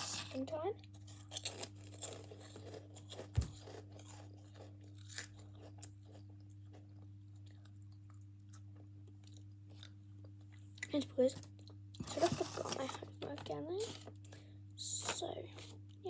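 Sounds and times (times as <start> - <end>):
child chewing crunchy snack: 0.0 - 14.4
low steady hum: 0.0 - 16.0.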